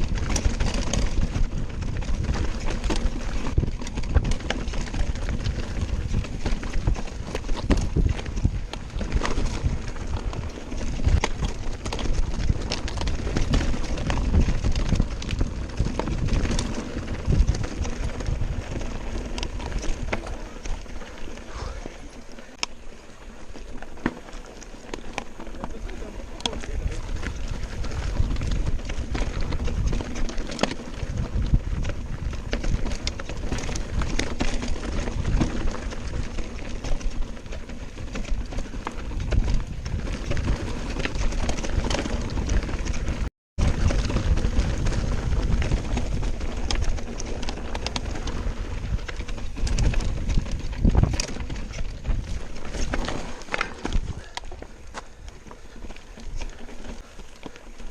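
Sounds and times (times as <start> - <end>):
bike rattling and knocking: 0.0 - 57.9
bike tyres over stones: 0.0 - 57.9.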